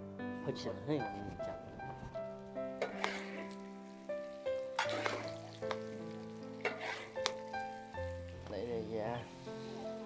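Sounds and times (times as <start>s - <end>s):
light background music: 0.0s - 10.0s
food sizzling: 1.9s - 10.0s.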